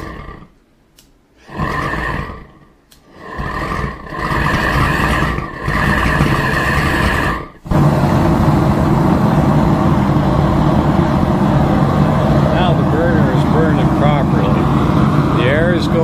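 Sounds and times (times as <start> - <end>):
gas burner flame roaring: 0.0 - 16.0.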